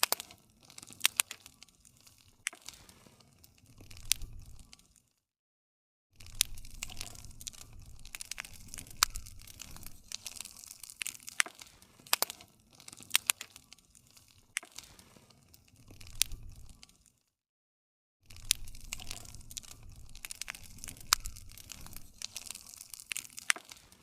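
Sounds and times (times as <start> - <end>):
burning wood popping: 0.0 - 5.1, 6.2 - 17.2, 18.3 - 24.0
wood fire crackling: 0.0 - 5.2, 6.2 - 17.3, 18.3 - 24.0
low rumble of flames: 0.4 - 5.0, 6.2 - 17.1, 18.3 - 24.0.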